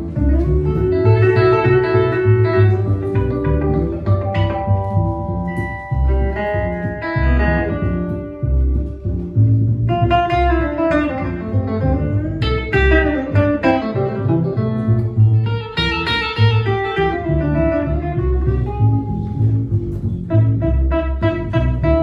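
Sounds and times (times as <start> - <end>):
double bass plucking: 0.0 - 22.0
electric guitar picking notes: 0.0 - 22.0.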